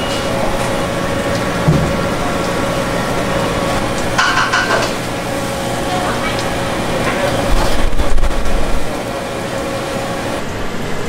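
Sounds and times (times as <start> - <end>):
rushing workshop noise: 0.0 - 11.0.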